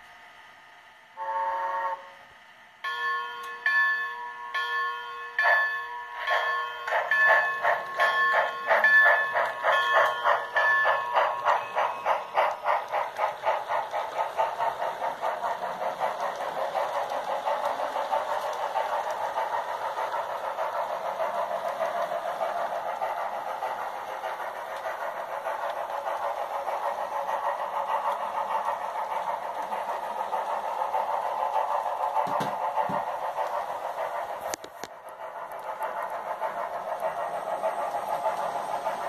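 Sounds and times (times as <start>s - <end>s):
model steam locomotive sounds: 0.0s - 39.0s
model wheels rolling on track: 6.2s - 39.0s.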